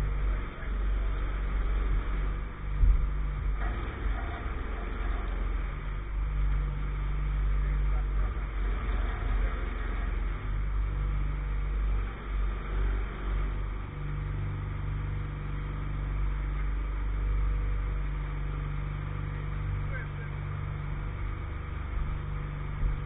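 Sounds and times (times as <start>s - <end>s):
engine running at low pitch: 0.0s - 23.0s.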